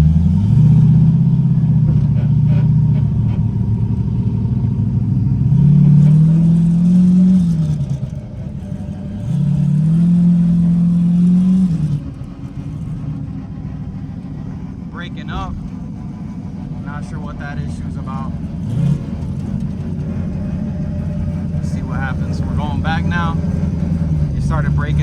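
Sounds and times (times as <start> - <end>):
car engine revving under full throttle: 0.0 - 25.0.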